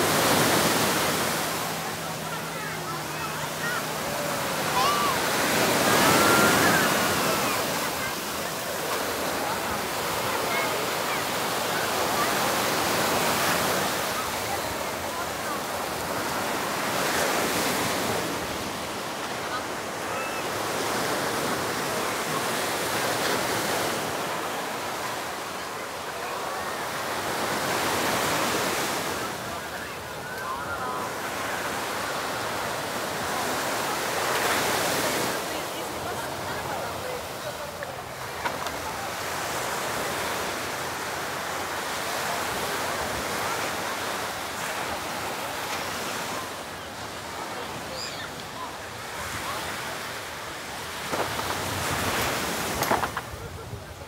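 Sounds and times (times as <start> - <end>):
surf breaking on sandy beach: 0.0 - 54.0.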